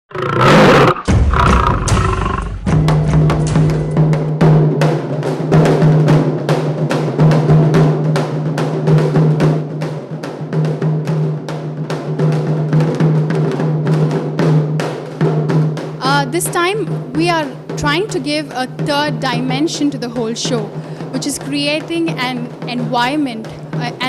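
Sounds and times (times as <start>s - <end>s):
fast drum beat: 0.2s - 24.0s.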